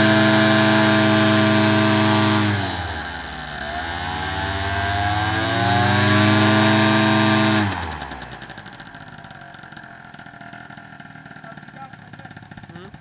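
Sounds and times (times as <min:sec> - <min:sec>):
propeller engine revving: 0:00.0 - 0:13.0.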